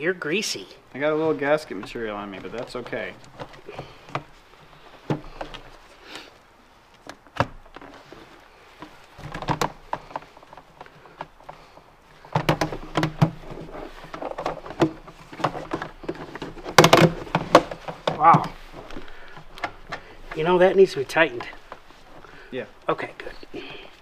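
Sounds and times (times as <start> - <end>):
plastic hose rubbing and rattling: 0.9 - 24.0.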